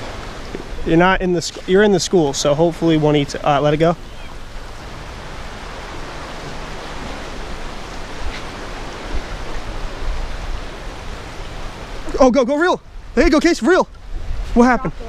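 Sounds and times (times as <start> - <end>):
wind rumble on microphone: 0.0 - 12.2, 12.8 - 15.0
churning water rushing: 0.0 - 15.0.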